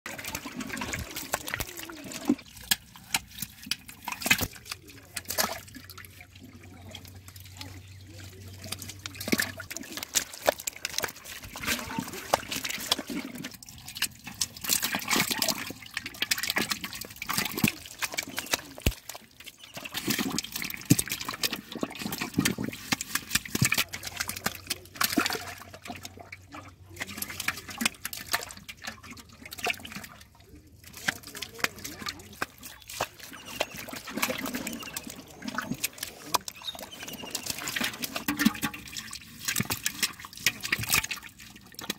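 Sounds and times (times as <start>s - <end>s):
fish thrashing in muddy water: 0.1s - 41.9s
trickling water: 0.1s - 41.9s
water splashes and slaps: 0.1s - 41.9s.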